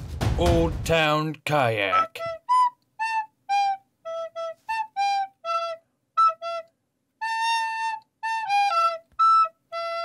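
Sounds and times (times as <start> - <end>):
solo recorder tune: 1.9 - 10.0.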